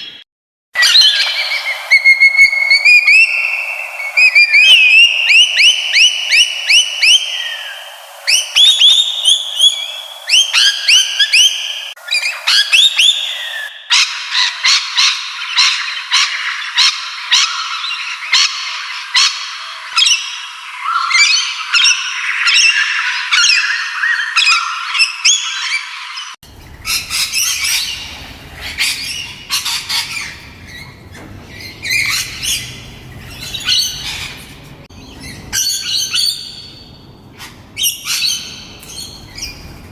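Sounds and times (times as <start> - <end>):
parrots chirping and squawking: 0.8 - 39.9.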